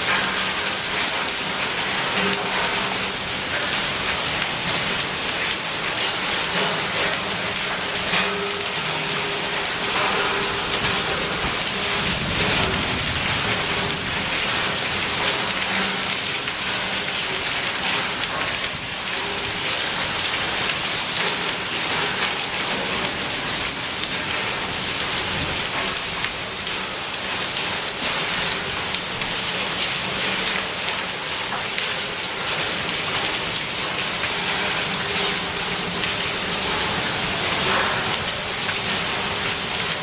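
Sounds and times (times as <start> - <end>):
hail and heavy rain pelting: 0.0 - 40.0.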